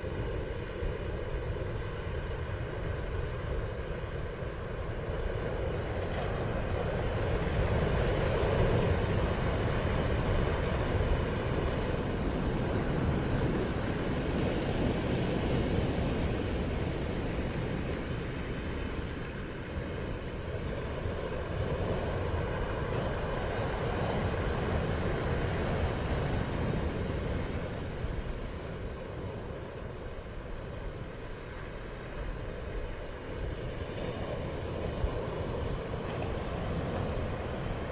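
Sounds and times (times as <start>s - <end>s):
ocean surf breaking on beach: 0.0s - 37.9s.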